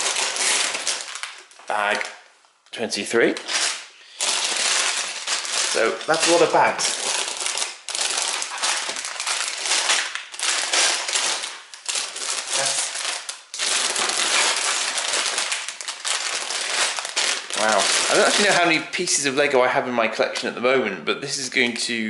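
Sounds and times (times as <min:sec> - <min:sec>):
plastic bags crinkling: 0:00.0 - 0:02.2, 0:03.2 - 0:19.3.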